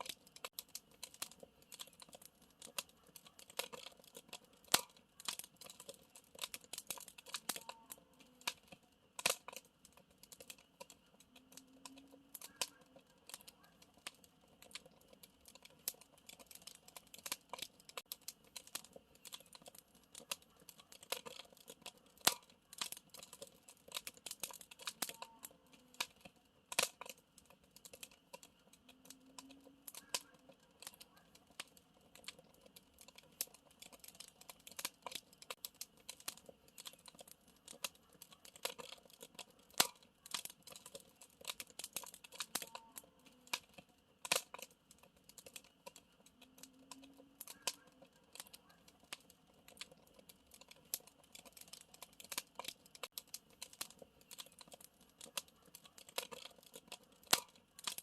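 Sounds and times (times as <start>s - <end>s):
bonfire crackling: 0.0s - 58.0s.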